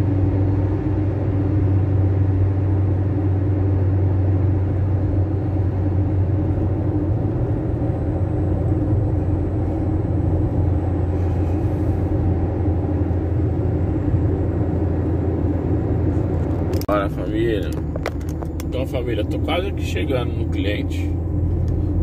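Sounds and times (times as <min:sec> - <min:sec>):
van engine and road rumble: 0:00.0 - 0:22.0.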